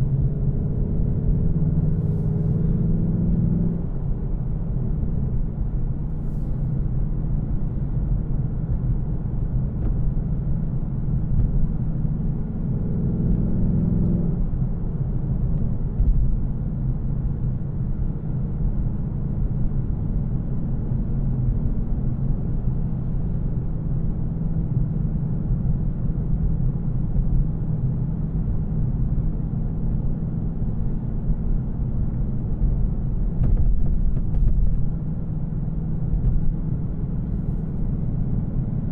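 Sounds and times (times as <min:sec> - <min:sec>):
car engine cruising drone: 0:00.0 - 0:38.9
road noise: 0:00.0 - 0:38.9.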